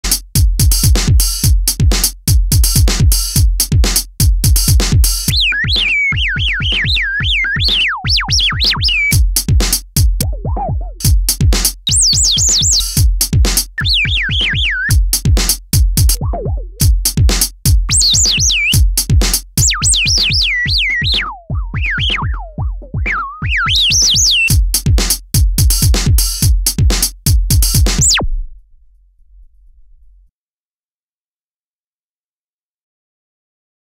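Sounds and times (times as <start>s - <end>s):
drum machine beat: 0.0s - 28.6s.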